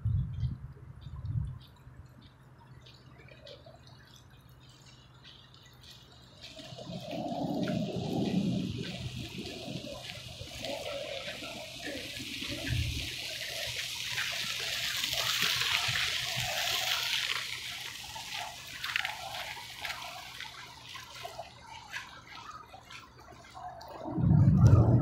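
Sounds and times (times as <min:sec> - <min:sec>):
water splashes and drips: 0:01.4 - 0:25.0
water lapping at shoreline: 0:01.6 - 0:25.0.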